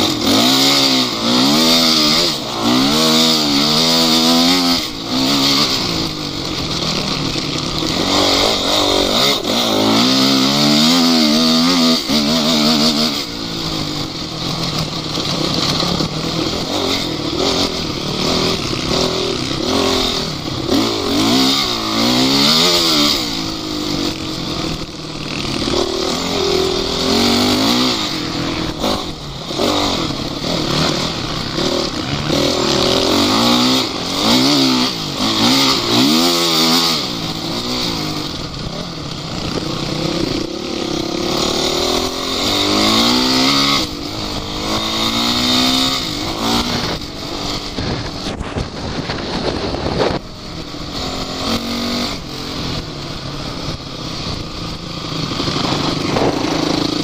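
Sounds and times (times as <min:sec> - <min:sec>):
off-road vehicle engines revving: 0:00.0 - 0:57.0.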